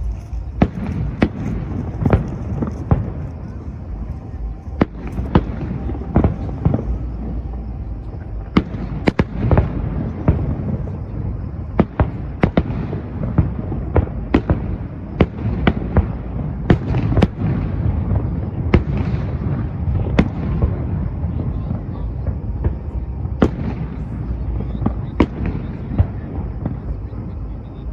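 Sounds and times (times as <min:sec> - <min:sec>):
fireworks bursting with sharp bangs: 0:00.0 - 0:27.9
low rumble of echoing reports: 0:00.0 - 0:27.9.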